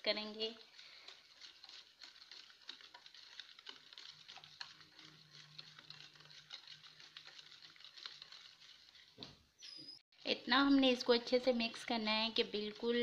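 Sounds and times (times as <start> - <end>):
whisk beating batter in bowl: 0.0 - 9.4, 10.2 - 13.0.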